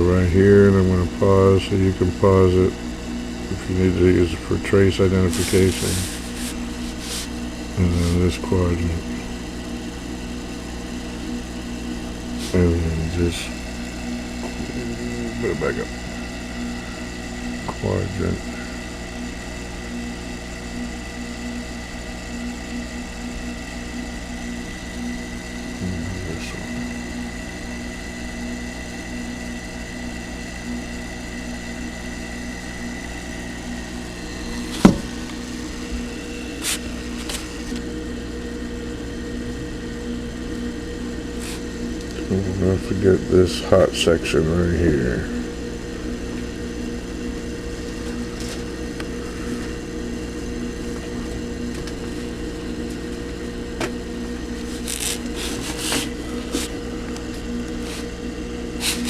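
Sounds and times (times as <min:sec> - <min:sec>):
electrical hum and hiss: 0:00.0 - 0:59.0
pulsing buzz: 0:00.0 - 0:59.0.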